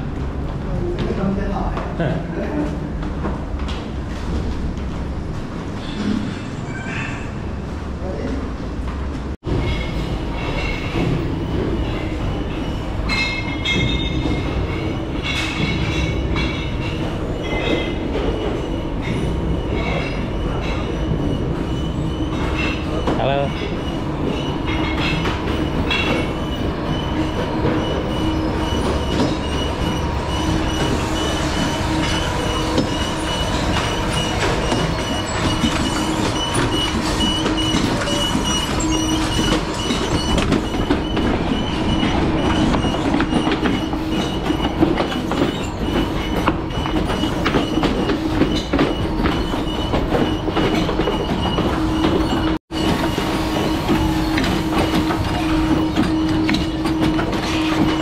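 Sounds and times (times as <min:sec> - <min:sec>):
factory machinery humming: 0:07.4 - 0:58.0
conveyors clattering and ticking: 0:08.1 - 0:58.0.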